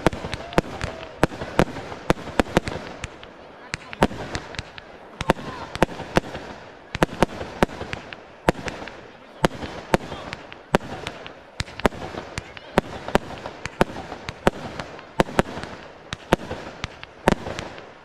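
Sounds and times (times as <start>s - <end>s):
faint steady noise: 0.0s - 18.0s
fireworks bangs: 0.0s - 18.0s.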